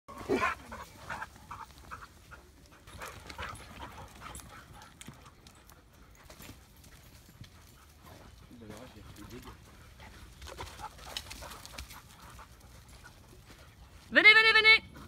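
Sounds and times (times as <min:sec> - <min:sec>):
dog panting: 0:00.3 - 0:14.1.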